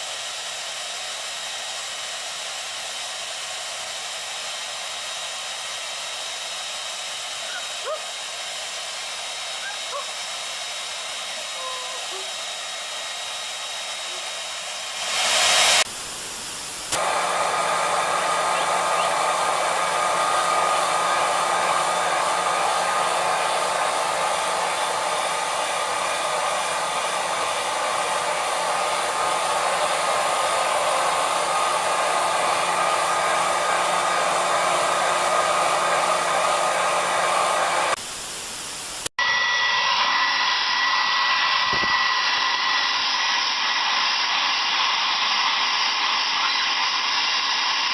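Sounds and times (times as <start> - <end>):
electric hair dryers blowing: 0.0 - 47.9.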